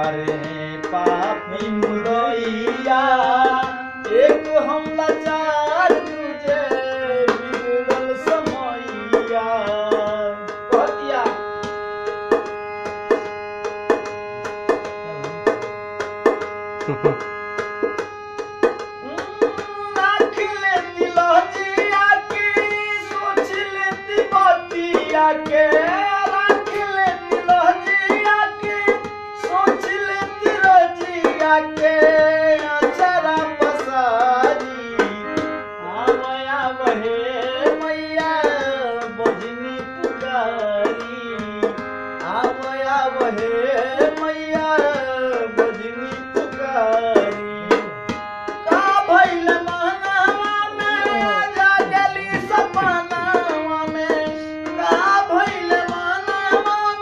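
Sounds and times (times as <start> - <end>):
tabla strokes: 0.0 - 35.5, 36.1 - 57.0.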